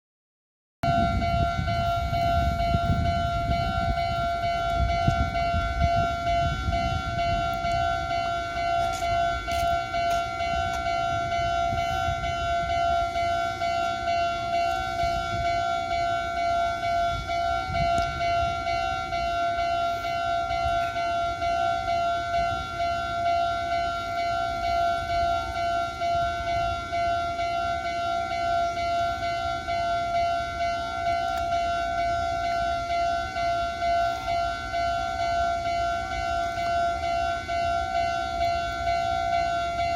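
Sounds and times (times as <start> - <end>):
level crossing bell ringing: 0.8 - 39.9
passing train rumble: 0.8 - 39.9.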